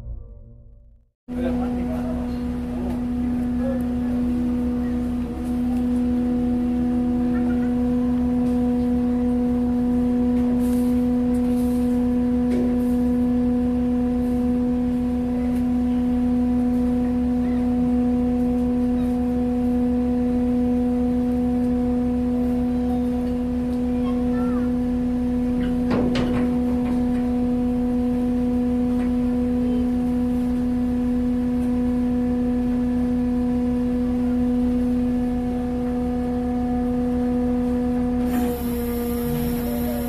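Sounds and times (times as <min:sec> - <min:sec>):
ferry machinery droning: 0:00.0 - 0:40.0.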